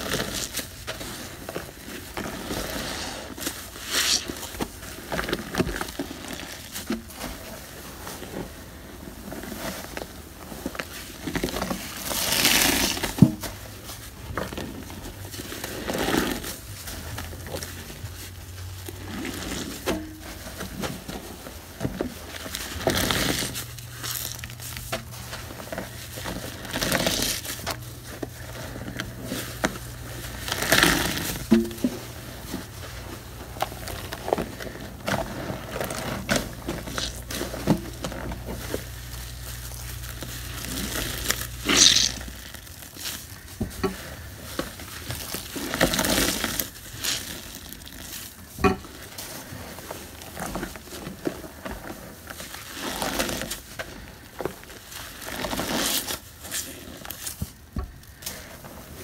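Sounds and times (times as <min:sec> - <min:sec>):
sponge squelching: 0:00.0 - 0:48.4
foam popping and crackling: 0:00.0 - 0:59.0.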